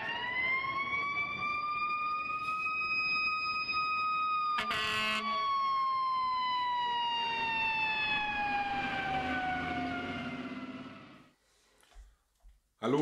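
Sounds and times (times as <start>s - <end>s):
fire truck siren wailing: 0.0s - 11.3s.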